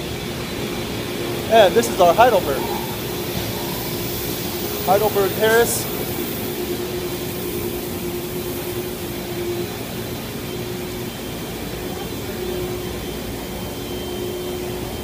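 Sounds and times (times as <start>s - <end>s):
constant hum: 0.0s - 15.0s
printing press mechanical din: 0.0s - 15.0s.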